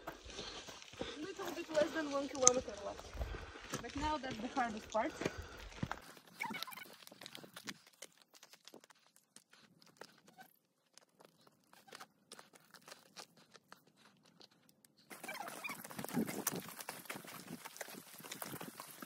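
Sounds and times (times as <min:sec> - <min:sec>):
footsteps crunching on stones: 0:00.0 - 0:14.2, 0:15.0 - 0:19.0
rustling: 0:00.3 - 0:19.0.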